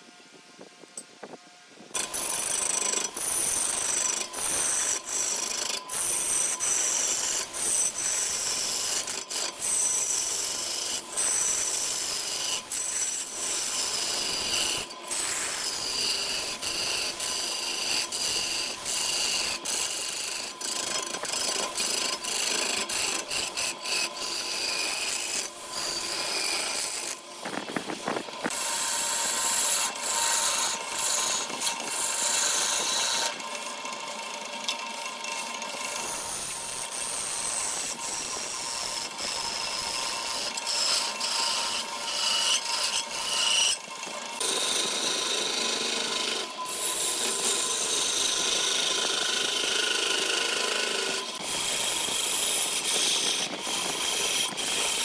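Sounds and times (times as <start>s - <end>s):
rasping scrape of wood shaving: 1.9s - 55.0s.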